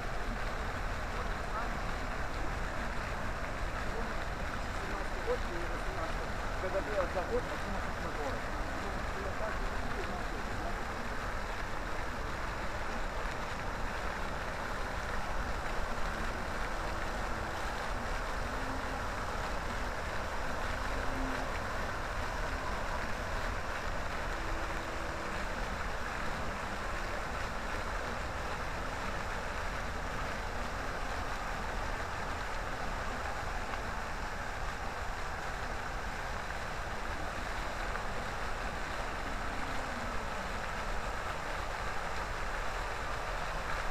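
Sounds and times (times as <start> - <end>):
fountain water splashing: 0.0 - 43.9.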